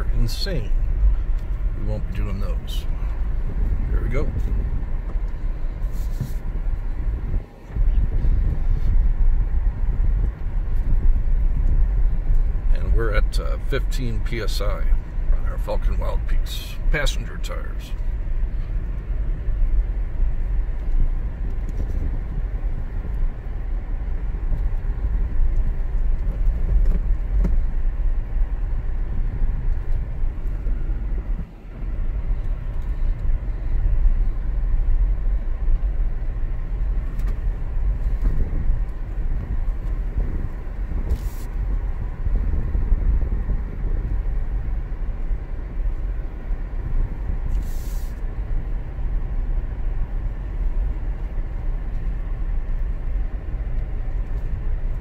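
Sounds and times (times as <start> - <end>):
vehicle engine and tyres on dirt: 0.0 - 55.0.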